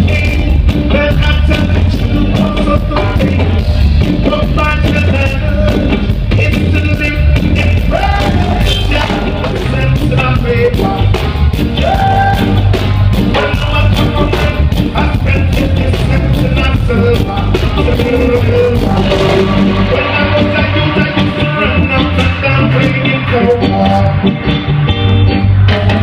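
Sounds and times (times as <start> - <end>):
man singing into microphone: 0.0 - 12.6, 13.3 - 24.7, 25.6 - 26.0
live reggae band playing: 0.0 - 26.0.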